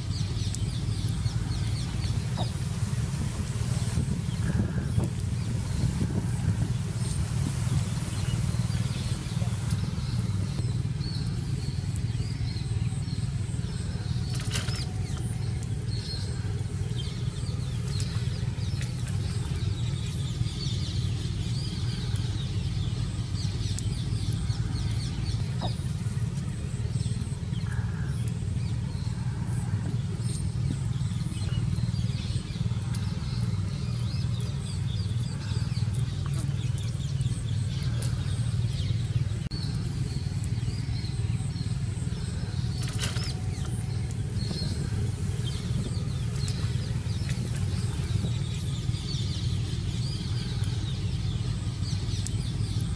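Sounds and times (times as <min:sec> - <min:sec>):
low rumble: 0:00.0 - 0:52.9.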